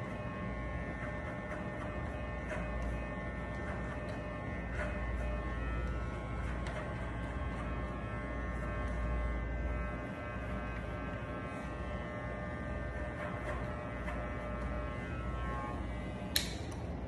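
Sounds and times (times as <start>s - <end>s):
electric hair clipper buzzing: 0.0s - 17.0s.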